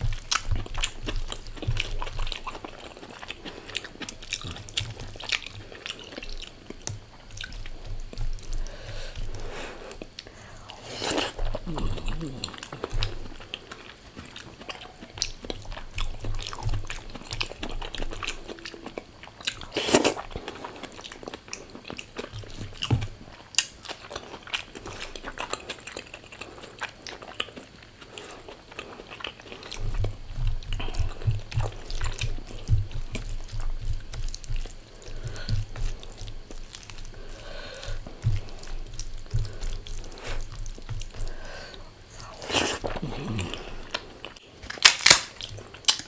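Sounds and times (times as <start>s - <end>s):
person chewing and crunching food: 0.0s - 46.0s.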